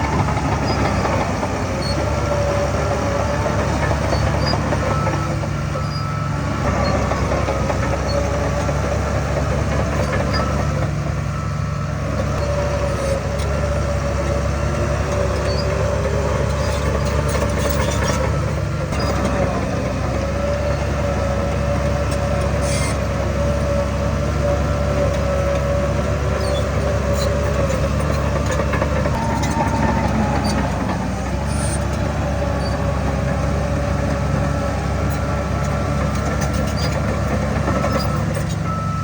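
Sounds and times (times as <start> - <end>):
diesel machinery engine drone: 0.0 - 39.0.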